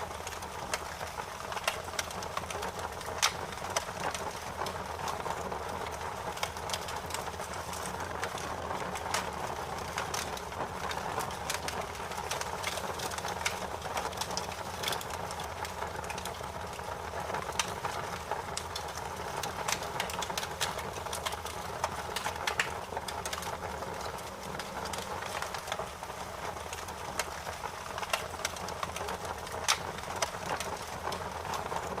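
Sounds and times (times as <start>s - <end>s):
bonfire crackling and popping: 0.0s - 32.0s.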